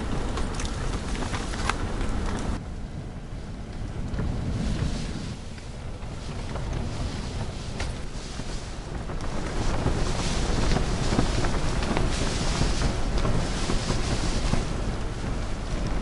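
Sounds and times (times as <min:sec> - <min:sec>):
low wind rumble on microphone: 0:00.0 - 0:16.0
wind buffeting tent fabric: 0:00.0 - 0:16.0.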